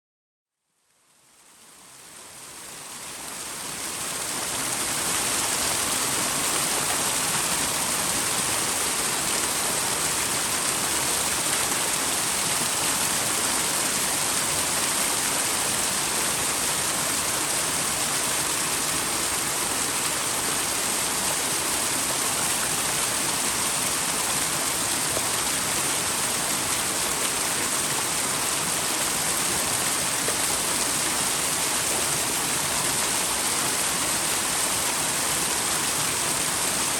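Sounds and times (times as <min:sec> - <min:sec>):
waterfall splashing: 0:02.8 - 0:36.9.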